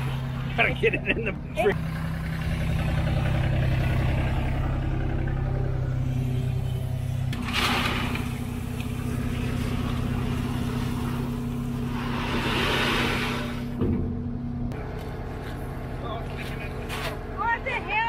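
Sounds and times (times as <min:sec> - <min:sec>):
machine engines running: 0:00.0 - 0:18.0.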